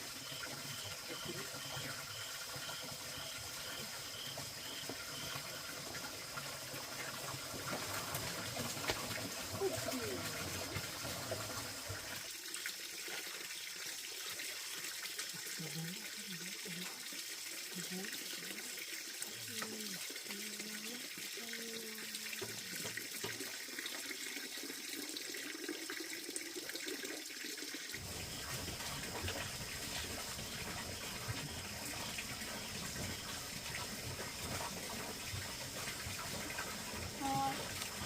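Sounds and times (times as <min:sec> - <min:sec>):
running water hiss: 0:00.0 - 0:38.0.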